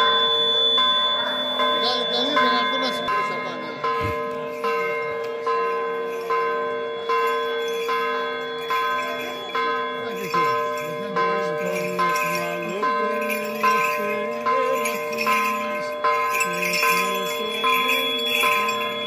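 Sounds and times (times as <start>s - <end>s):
church bell ringing: 0.0s - 19.0s.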